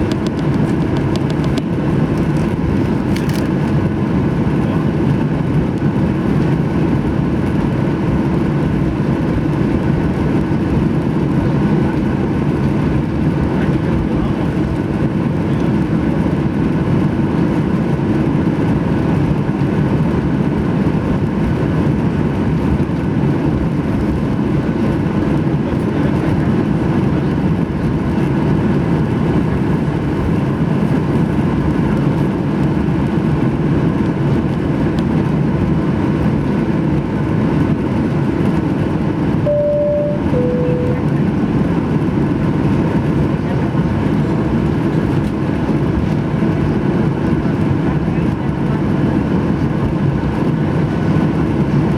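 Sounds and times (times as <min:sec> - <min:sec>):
jet engines in cabin: 0:00.0 - 0:51.9.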